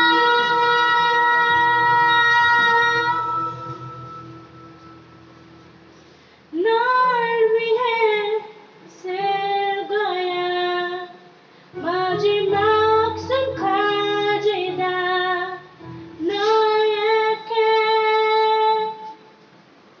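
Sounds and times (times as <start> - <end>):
woman singing ballad into microphone: 0.0 - 4.5, 6.5 - 11.2, 11.8 - 19.3.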